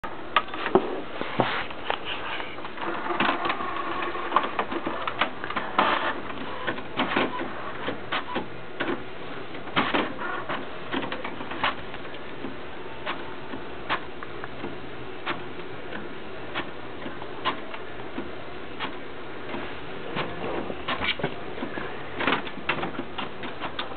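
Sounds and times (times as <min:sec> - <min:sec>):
inkjet printer printing: 0:02.4 - 0:23.9.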